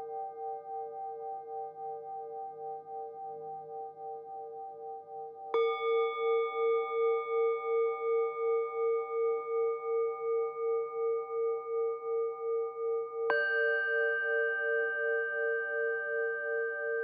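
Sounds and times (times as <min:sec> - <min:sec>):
bowl bell ringing with pulse: 0:00.0 - 0:17.0.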